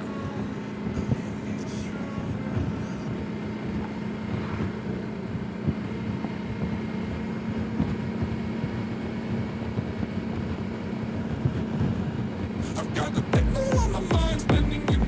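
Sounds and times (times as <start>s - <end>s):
road noise: 0.0s - 14.9s
motorcycle engine droning: 0.0s - 15.0s.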